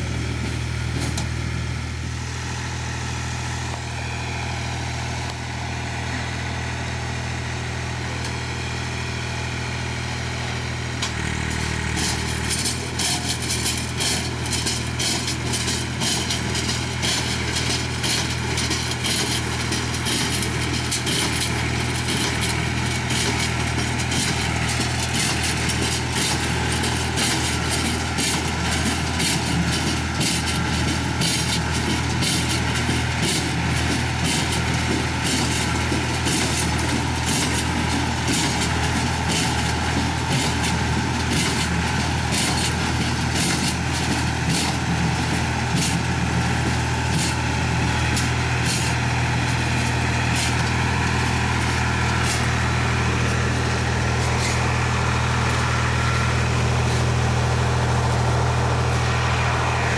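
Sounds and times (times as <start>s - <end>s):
tractor diesel engine drone: 0.0s - 59.9s.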